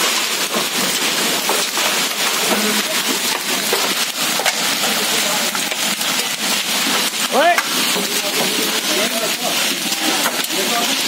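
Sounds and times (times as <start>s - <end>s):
hail striking concrete: 0.0s - 11.0s
heavy rain hissing: 0.0s - 11.0s.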